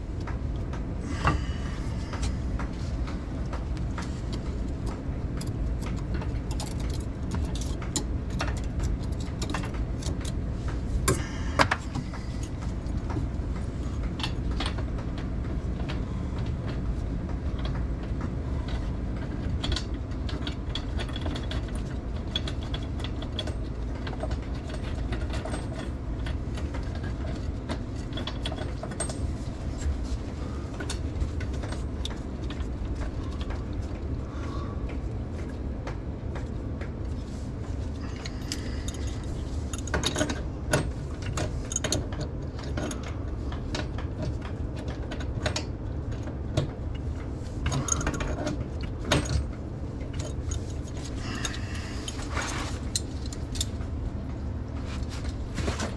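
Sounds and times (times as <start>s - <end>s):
steady low hum: 0.0s - 55.9s
tools clicking and tapping on fittings: 0.2s - 34.0s, 38.0s - 54.0s.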